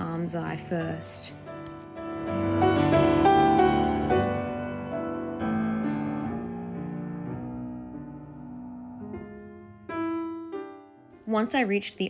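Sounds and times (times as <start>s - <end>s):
slow piano music: 0.0s - 11.7s.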